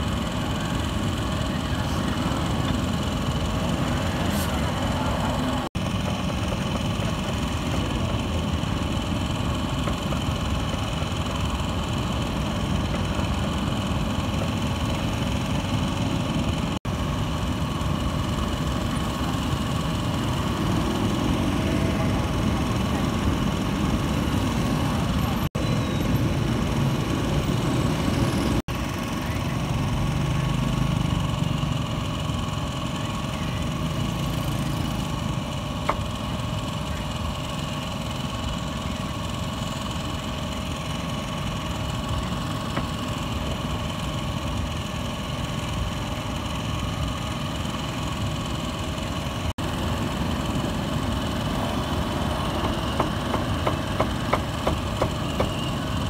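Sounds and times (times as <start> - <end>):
constant hum: 0.0 - 56.0
engine idling: 0.0 - 56.0.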